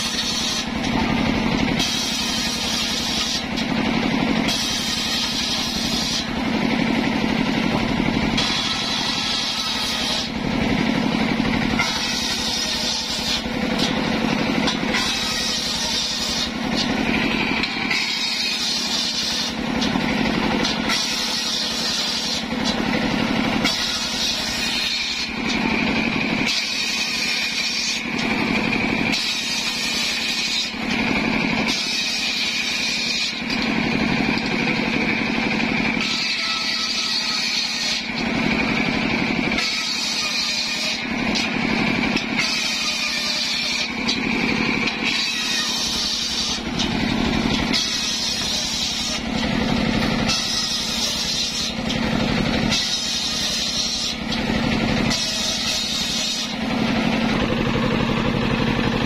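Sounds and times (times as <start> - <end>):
circular saw blade cutting wood: 0.0 - 59.0
engine running steadily: 0.0 - 59.0.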